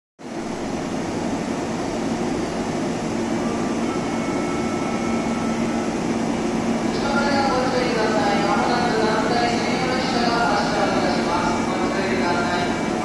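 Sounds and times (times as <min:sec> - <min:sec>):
train equipment hum and whir: 0:00.2 - 0:13.0.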